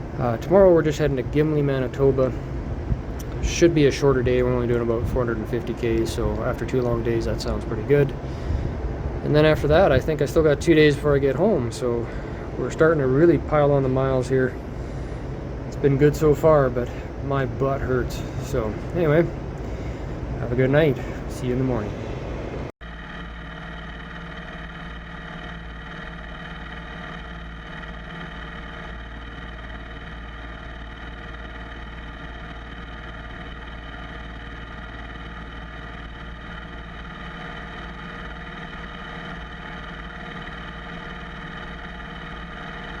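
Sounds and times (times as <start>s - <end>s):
low rumble: 0.0s - 43.0s
motorcycle engine running steadily: 0.0s - 43.0s.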